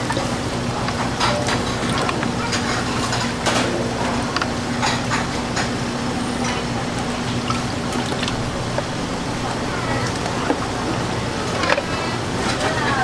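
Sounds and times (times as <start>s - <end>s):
liquid sloshing: 0.0s - 13.0s
steady low hum: 0.0s - 13.0s.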